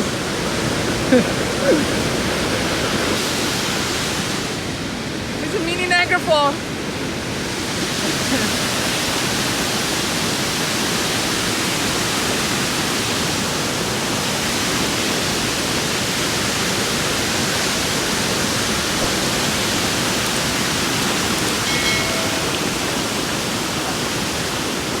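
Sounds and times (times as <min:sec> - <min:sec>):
water rushing over waterfall: 0:00.0 - 0:25.0.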